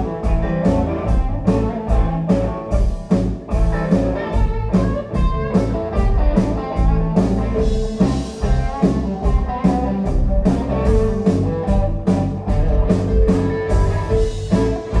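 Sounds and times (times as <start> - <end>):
drum kit beat: 0.0 - 15.0
electric guitars: 0.0 - 15.0.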